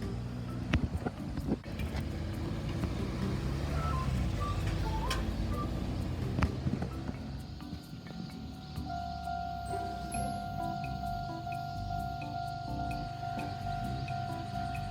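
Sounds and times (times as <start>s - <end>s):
light background music: 0.0s - 14.9s
vehicle running noise: 0.0s - 14.9s.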